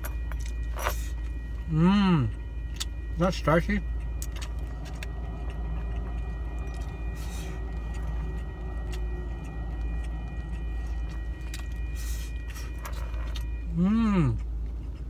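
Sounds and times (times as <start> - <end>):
car idling hum: 0.0 - 15.0.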